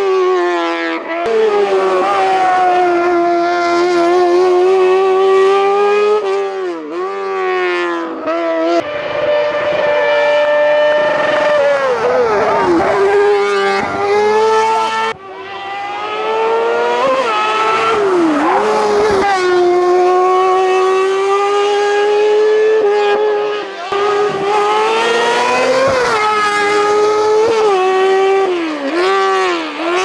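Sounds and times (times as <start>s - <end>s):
racing car engine at high revs: 0.0s - 30.0s.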